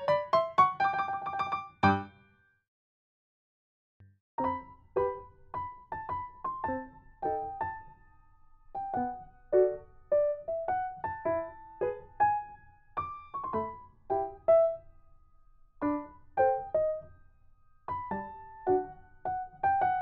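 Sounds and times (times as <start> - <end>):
piano-like melody: 0.0 - 2.3, 4.4 - 20.0.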